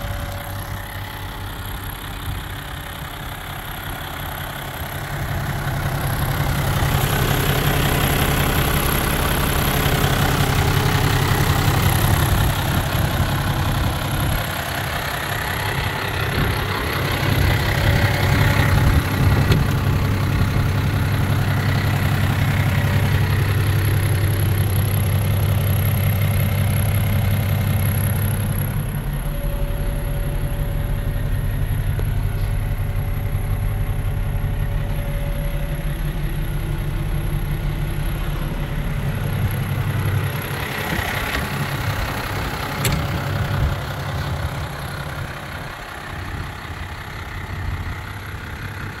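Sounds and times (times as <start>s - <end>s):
tractor diesel engine idling: 0.0s - 49.0s.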